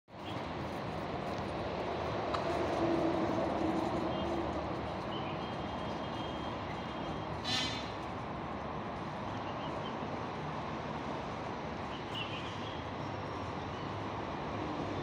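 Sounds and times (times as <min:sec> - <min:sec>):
distant traffic hum: 0:00.1 - 0:15.0.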